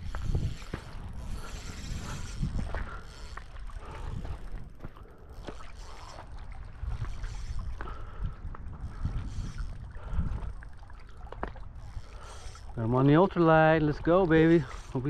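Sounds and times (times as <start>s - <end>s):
water lapping: 0.0s - 15.0s
wind rumbling on microphone: 0.0s - 15.0s.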